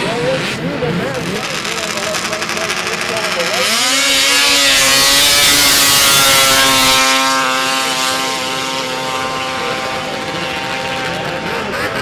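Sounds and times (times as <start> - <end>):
snowmobile engines at full throttle: 0.0 - 12.0.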